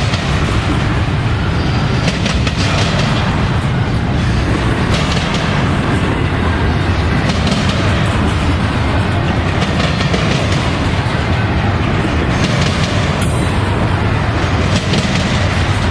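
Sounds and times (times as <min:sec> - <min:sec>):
freight train cars rolling: 0:00.0 - 0:15.9
wheels clicking over rail joints: 0:00.0 - 0:15.9.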